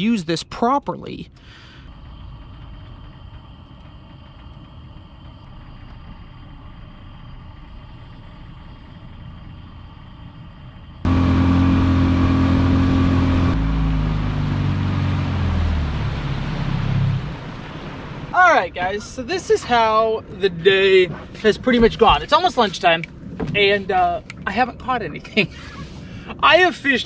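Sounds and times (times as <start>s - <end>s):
low steady rumble: 0.0s - 27.0s
outboard motor running: 1.3s - 9.9s, 11.0s - 26.4s.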